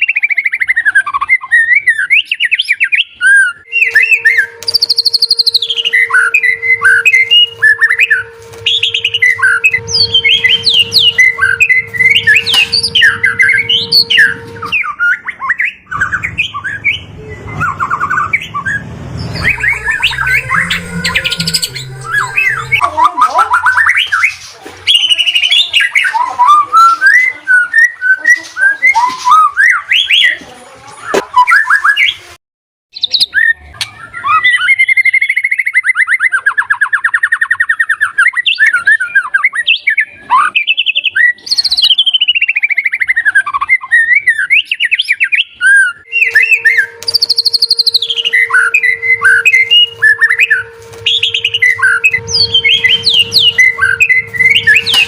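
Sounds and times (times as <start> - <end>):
bird singing with whistles and trills: 0.0 - 30.4, 31.0 - 32.3, 33.0 - 55.0.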